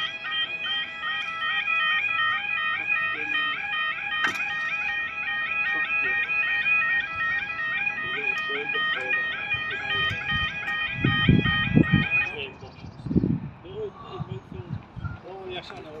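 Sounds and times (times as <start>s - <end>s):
level crossing alarm: 0.0s - 12.8s.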